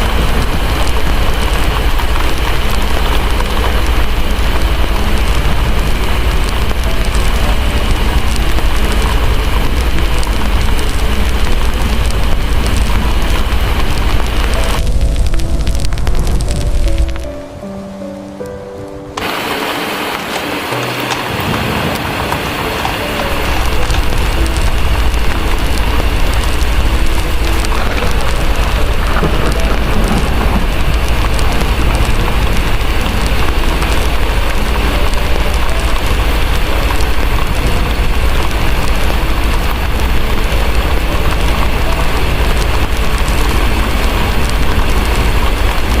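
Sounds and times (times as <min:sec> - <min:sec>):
heavy rain with deep rumble: 0:00.0 - 0:46.0
wood fire crackling: 0:00.0 - 0:46.0.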